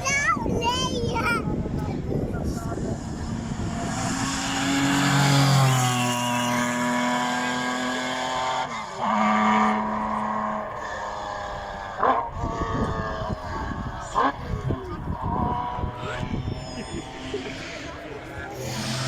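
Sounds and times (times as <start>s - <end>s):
racing car engine at high revs: 2.0s - 19.0s.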